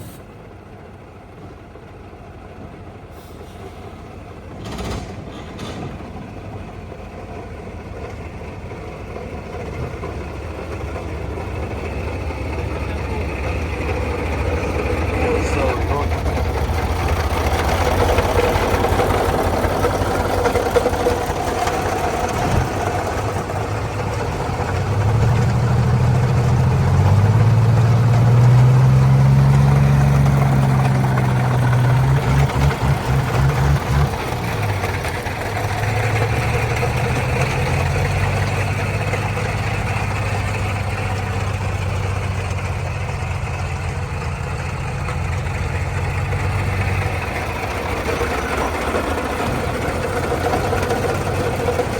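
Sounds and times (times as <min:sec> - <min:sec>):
truck engine under load: 0:00.0 - 0:51.9.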